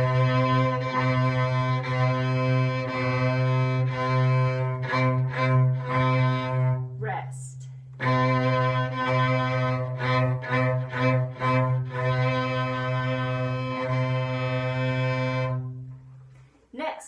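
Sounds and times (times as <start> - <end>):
cello and violin bowing: 0.0 - 6.8, 8.0 - 15.8.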